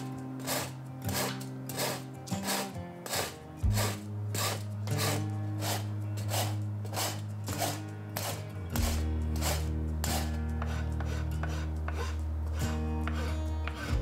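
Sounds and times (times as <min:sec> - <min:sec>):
background music with low notes: 0:00.0 - 0:14.0
rasp scraping wood: 0:00.0 - 0:14.0.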